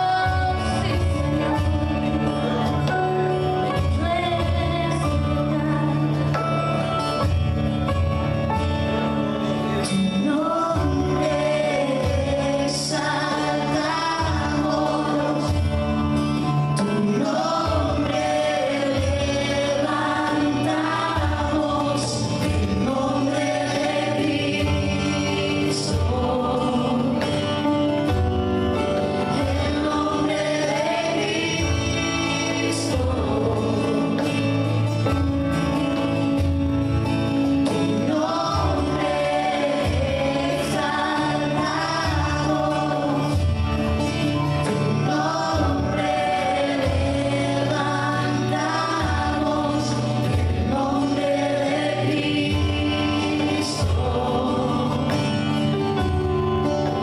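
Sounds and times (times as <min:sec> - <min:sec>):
band singing worship song: 0:00.0 - 0:57.0
keyboard: 0:00.0 - 0:57.0
strummed acoustic guitars: 0:00.0 - 0:57.0
cajon beat: 0:09.9 - 0:57.0.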